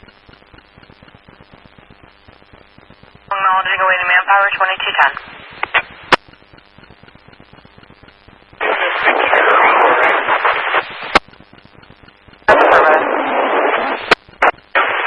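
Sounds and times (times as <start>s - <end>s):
radio static: 0.0s - 15.0s.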